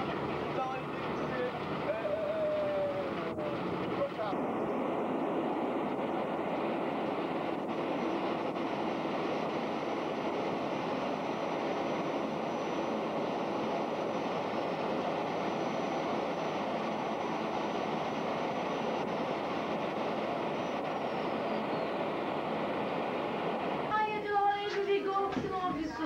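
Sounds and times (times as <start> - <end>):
faint high whine: 0.0 - 25.2.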